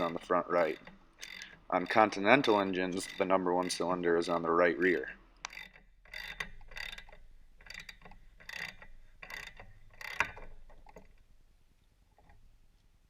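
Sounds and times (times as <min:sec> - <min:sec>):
ratchet wrench clicking: 0:00.0 - 0:11.1.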